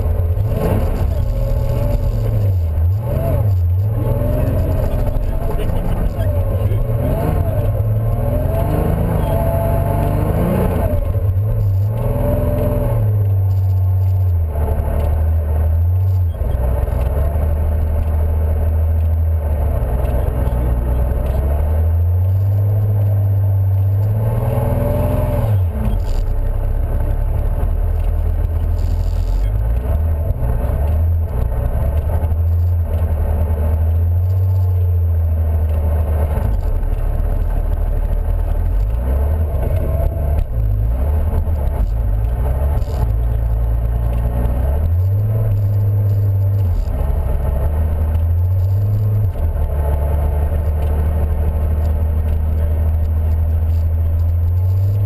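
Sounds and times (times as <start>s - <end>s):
car engine revving: 0.0s - 55.0s
tyre and road noise: 0.0s - 55.0s.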